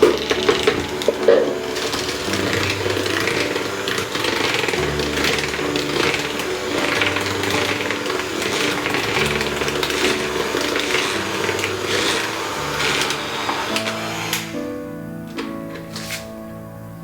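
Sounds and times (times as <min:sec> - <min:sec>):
electric mixer beating batter: 0:00.0 - 0:15.0
background music: 0:00.0 - 0:17.0.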